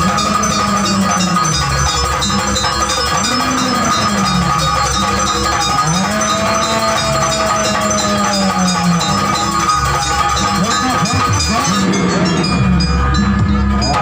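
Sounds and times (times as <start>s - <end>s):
bell-like metallic tones: 0.0s - 14.0s
high ringing tone: 0.0s - 14.0s
low sliding melody: 0.0s - 14.0s.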